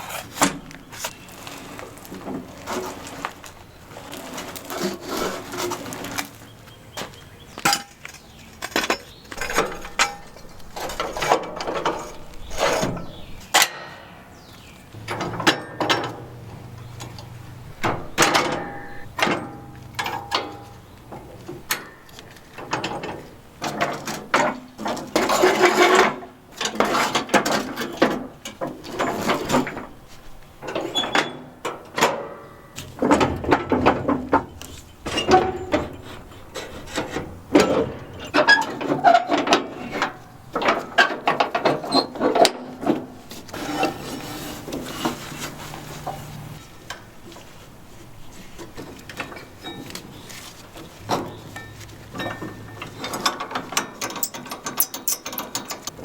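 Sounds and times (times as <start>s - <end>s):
metal tools clanking and scraping: 0.0s - 6.6s, 7.6s - 14.1s, 14.9s - 30.0s, 30.6s - 47.5s, 48.1s - 56.0s.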